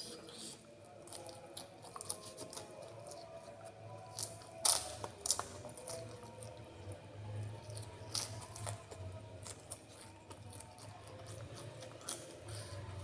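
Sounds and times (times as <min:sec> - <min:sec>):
chewing: 0:00.0 - 0:13.0.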